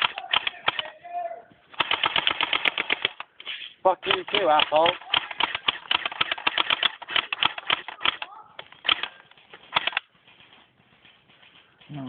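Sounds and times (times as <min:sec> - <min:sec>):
airsoft guns firing bursts: 0:00.0 - 0:10.1.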